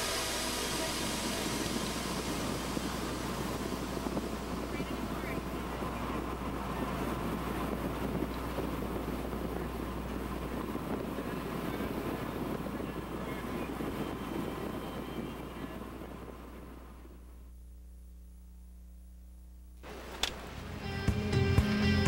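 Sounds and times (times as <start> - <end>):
engine and road noise: 0.0 - 17.5, 19.7 - 22.0
wind: 0.0 - 22.0.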